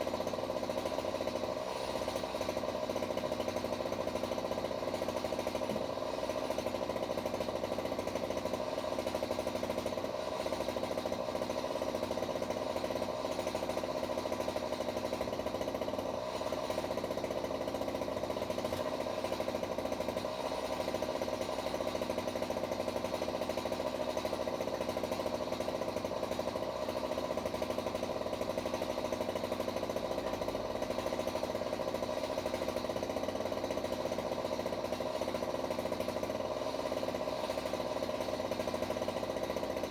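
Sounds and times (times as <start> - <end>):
power saw cutting tree limbs: 0.0 - 39.9.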